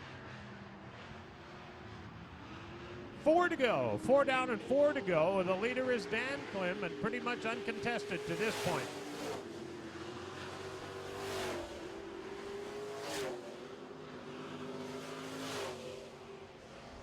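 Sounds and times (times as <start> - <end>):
race truck engines droning: 0.0 - 17.0
trucks passing close by: 0.0 - 17.0.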